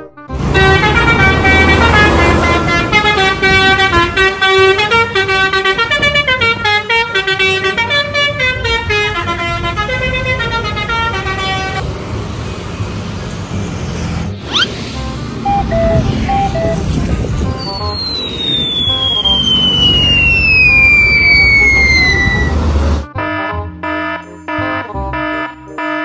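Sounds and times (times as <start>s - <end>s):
multi-tone bus horn melody: 0.0s - 11.9s, 14.3s - 26.0s.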